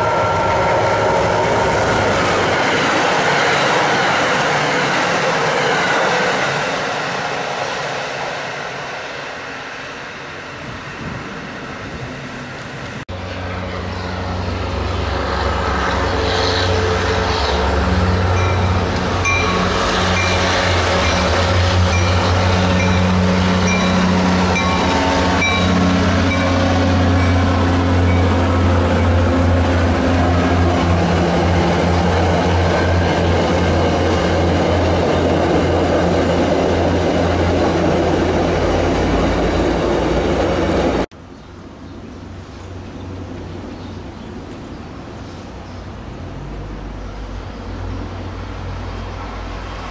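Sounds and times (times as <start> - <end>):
train coaches rumbling: 0.0 - 41.1, 42.0 - 49.9
diesel locomotive drone: 0.0 - 49.9.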